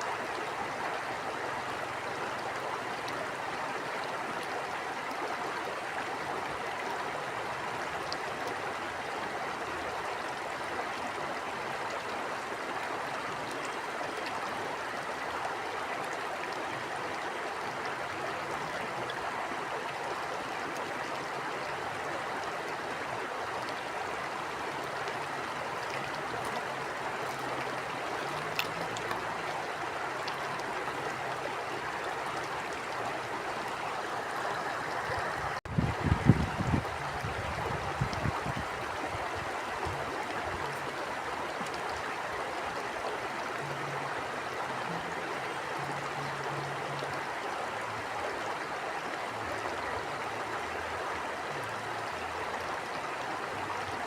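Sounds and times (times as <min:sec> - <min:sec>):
stream flowing: 0:00.0 - 0:54.0
faint ticks and splashes: 0:00.2 - 0:35.6, 0:37.5 - 0:49.9.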